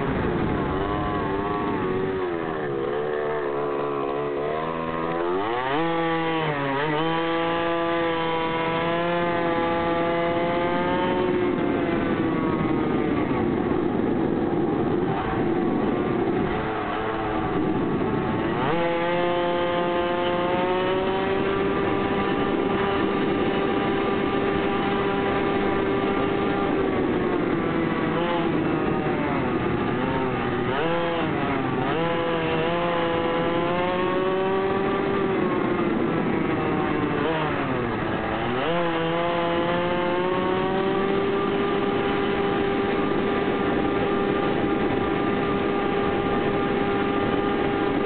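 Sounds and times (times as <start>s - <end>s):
mini motorbike engine running: 0.0s - 48.0s.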